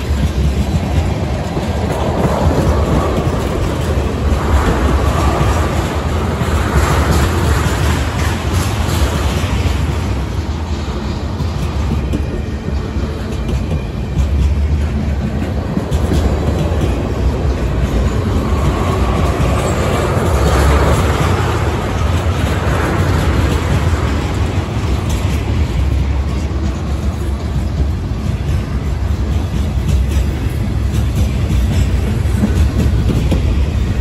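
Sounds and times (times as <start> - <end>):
steel wheels rumbling on rails: 0.0 - 34.0.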